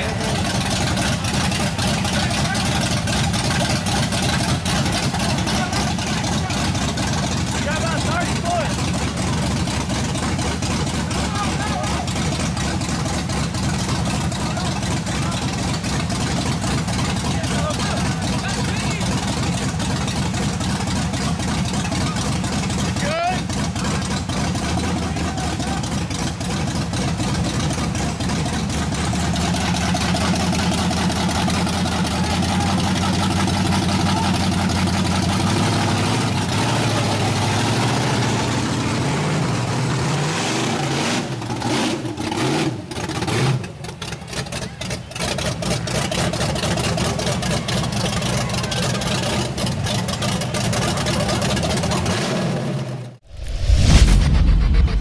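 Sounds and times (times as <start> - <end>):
truck engine idling: 0.0 - 40.3, 41.3 - 52.2.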